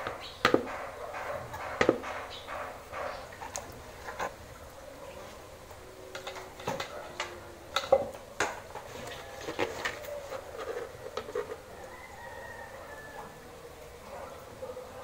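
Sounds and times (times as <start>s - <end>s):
plastic buckets being handled: 0.0s - 12.4s.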